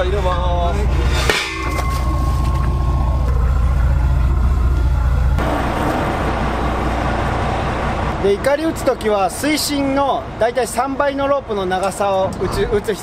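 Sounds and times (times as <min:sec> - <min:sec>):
boat engine low hum: 0:00.0 - 0:10.5.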